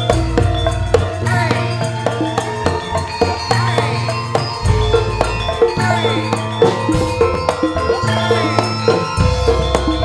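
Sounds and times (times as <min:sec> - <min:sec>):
drum strokes: 0:00.0 - 0:10.0
metallophones ringing melody: 0:00.0 - 0:10.0.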